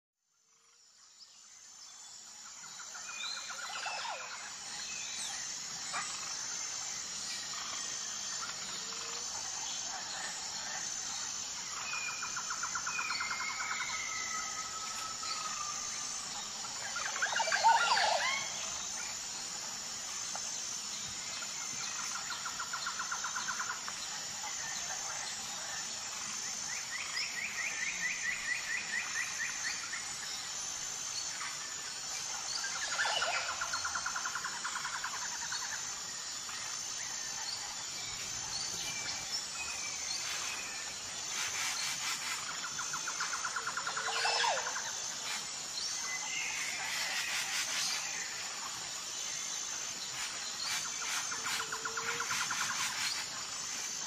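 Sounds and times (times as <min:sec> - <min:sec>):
steady background hiss: 0:00.4 - 0:54.0
birds singing rapid trills: 0:00.5 - 0:54.0.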